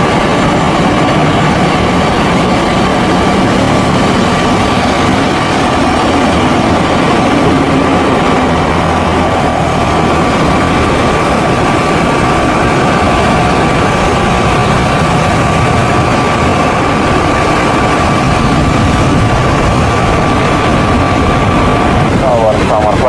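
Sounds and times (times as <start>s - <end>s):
engine whine: 0.0s - 23.0s
turboprop engines rumbling: 0.0s - 23.0s.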